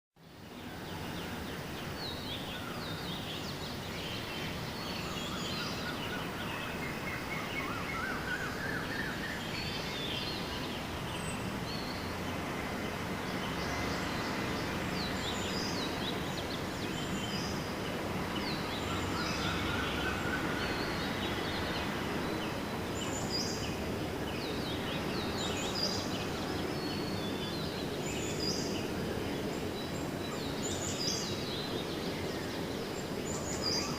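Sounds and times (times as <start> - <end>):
birds chirping: 0.3 - 33.9.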